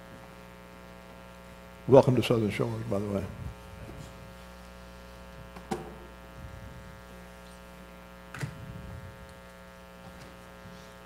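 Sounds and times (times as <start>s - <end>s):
buzzy electrical mains hum: 0.0s - 11.0s.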